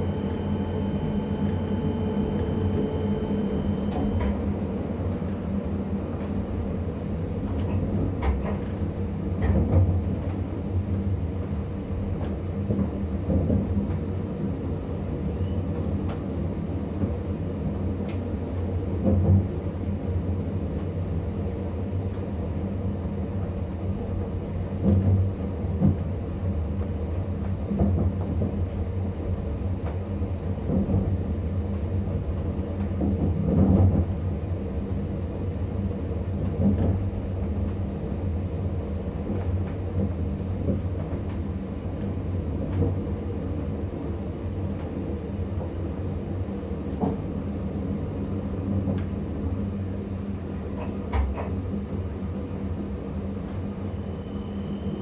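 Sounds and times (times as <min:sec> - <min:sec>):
moving train hum and rumble: 0:00.0 - 0:55.0.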